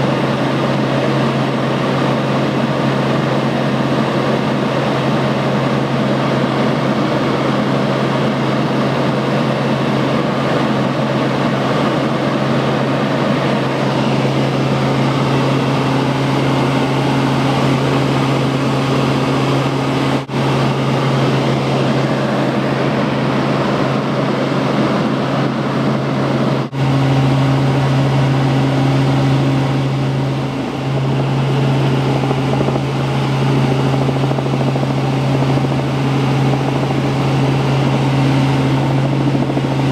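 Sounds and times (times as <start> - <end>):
constant low hum: 0.0 - 39.9
helicopter rotor and engine drone: 0.0 - 39.9.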